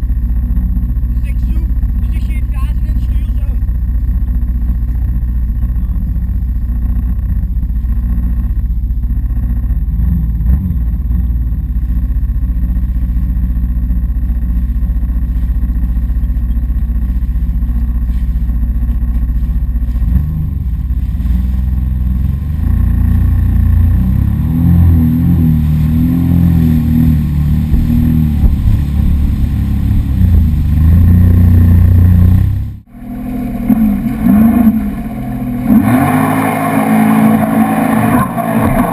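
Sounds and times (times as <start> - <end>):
jet ski engine rumbling: 0.0 - 38.9.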